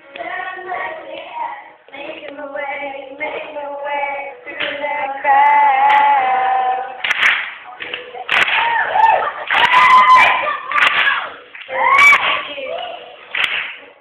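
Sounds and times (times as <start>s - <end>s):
girls singing together: 0.0s - 14.0s.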